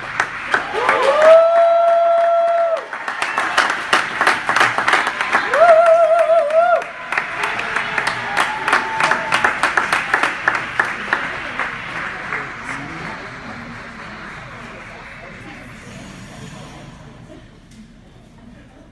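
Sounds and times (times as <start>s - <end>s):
audience applauding: 0.0s - 16.2s
high drawn-out cheering call: 0.4s - 15.8s.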